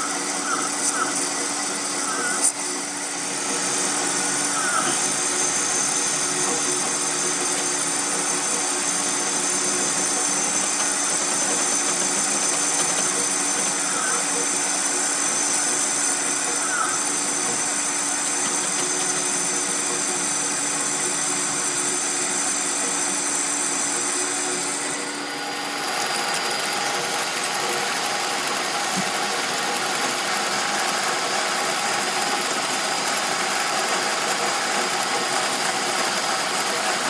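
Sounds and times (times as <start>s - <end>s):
workshop machine motor humming: 0.0s - 37.0s.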